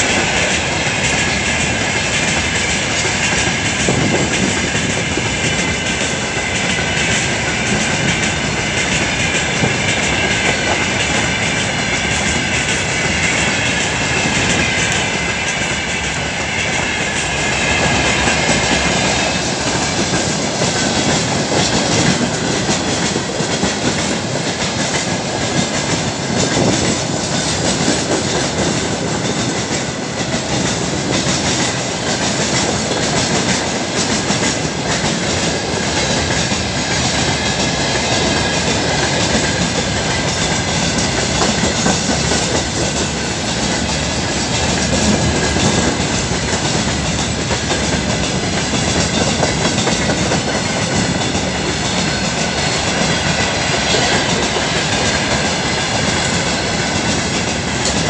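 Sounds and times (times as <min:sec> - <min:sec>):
clickety-clack over rail joints: 0:00.0 - 0:58.0
train wheels rumbling: 0:00.0 - 0:58.0.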